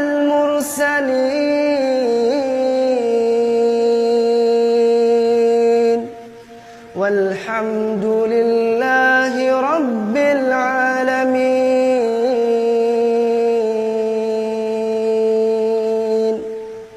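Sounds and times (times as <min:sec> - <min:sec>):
person chanting wordless melody: 0:00.0 - 0:16.9.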